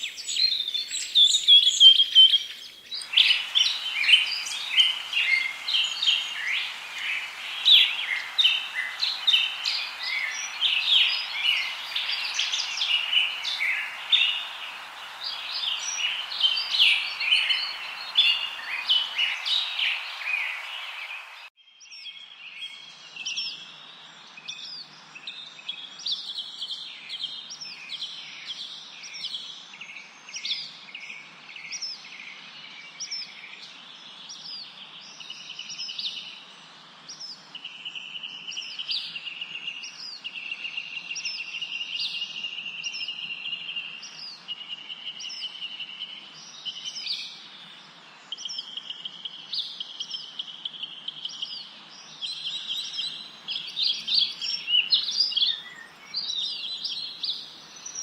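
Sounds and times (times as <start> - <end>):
background hiss: 0.0 - 21.5, 22.4 - 58.0
songbirds chirping and singing: 0.0 - 58.0.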